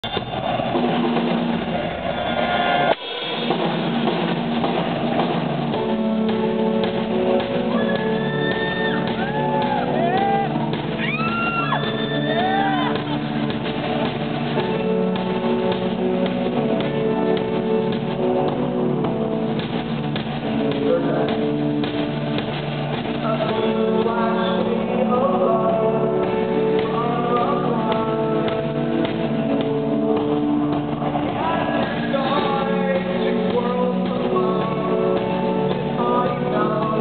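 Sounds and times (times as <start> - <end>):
drum kit: 0.0 - 37.0
electric guitar chords: 3.2 - 37.0.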